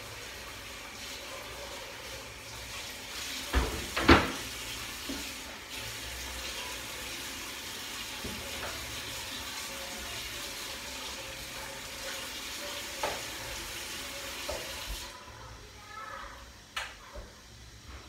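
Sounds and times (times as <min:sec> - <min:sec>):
tap water running into sink: 0:00.0 - 0:15.2.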